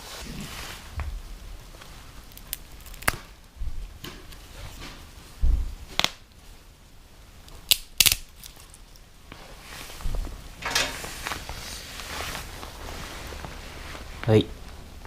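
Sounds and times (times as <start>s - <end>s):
burning wood cracking and popping: 1.0s - 13.6s.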